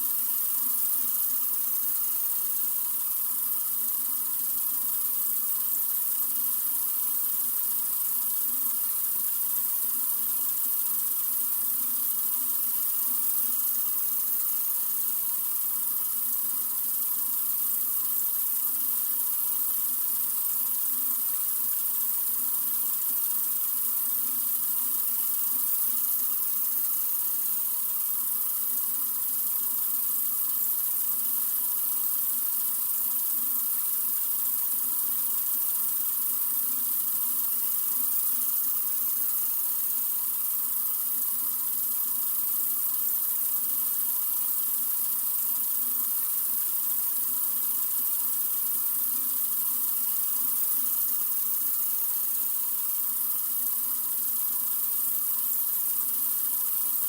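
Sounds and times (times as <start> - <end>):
faucet water running: 0.0 - 57.0.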